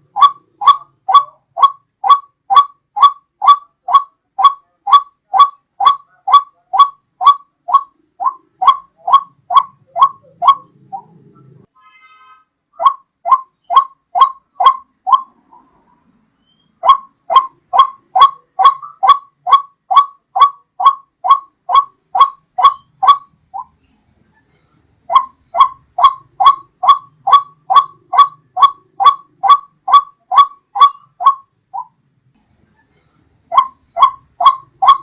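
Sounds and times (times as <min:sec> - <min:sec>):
waterhen call: 0:00.0 - 0:11.2, 0:12.1 - 0:15.8, 0:16.5 - 0:23.7, 0:25.1 - 0:32.0, 0:33.5 - 0:35.0.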